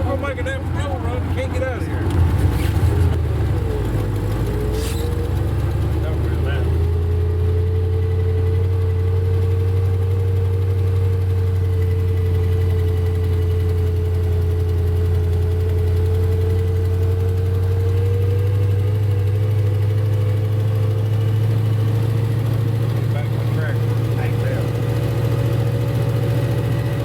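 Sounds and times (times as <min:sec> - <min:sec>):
engine running with whine: 0:00.0 - 0:27.0.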